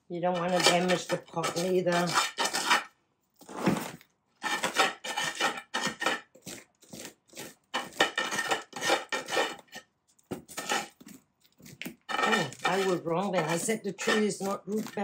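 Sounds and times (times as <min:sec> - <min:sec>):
hand tool scraping pot: 0:00.2 - 0:15.0.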